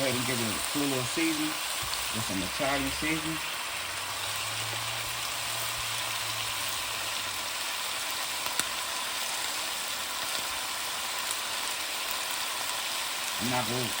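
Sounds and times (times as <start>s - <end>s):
meat sizzling in oil: 0.0s - 14.0s.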